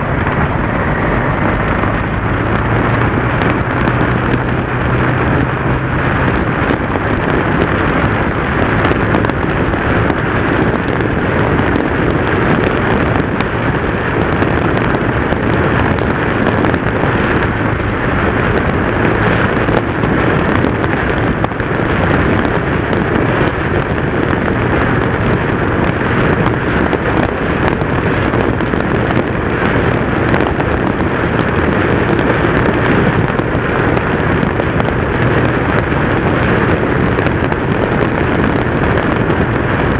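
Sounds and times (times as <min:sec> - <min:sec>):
motorcycle engine hum: 0:00.0 - 0:39.9
wind rush on microphone: 0:00.0 - 0:39.9.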